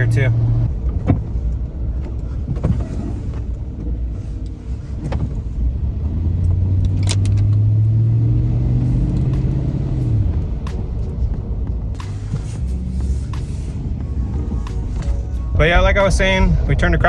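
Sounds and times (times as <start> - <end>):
car engine and road rumble: 0.0 - 17.0
steady engine hum: 0.0 - 17.0.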